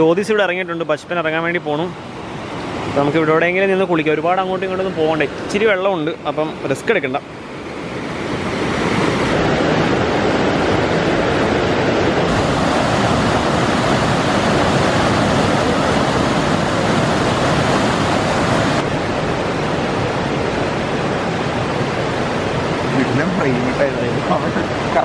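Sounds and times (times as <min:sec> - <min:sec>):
stream rushing water: 0:00.0 - 0:25.0.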